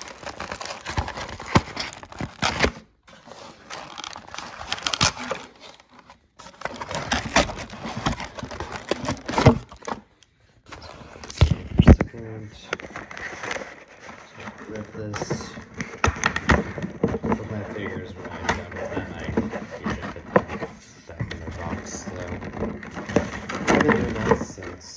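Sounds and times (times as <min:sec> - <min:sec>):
paper and cardboard rustling: 0:00.0 - 0:24.9.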